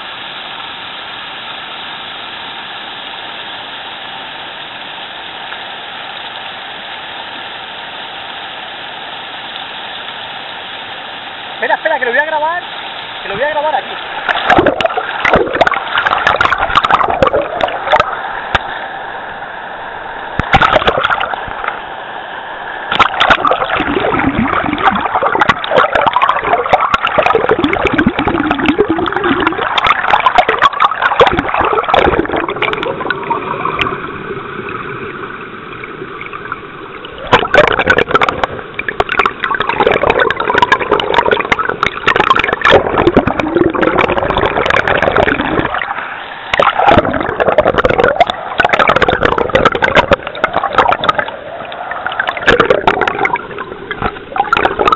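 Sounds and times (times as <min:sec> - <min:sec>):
underwater river churning: 0:10.3 - 0:54.9.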